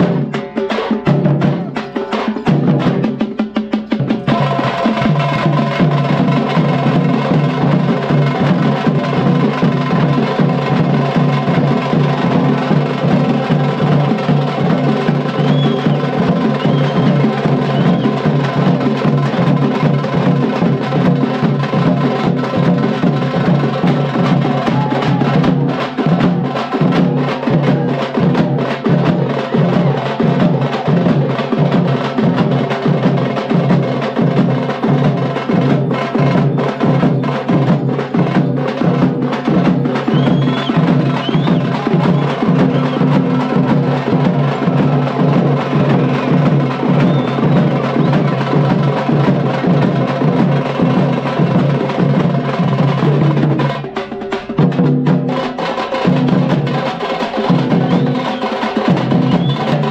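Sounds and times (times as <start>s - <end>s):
drums and cymbals: 0.0s - 59.9s.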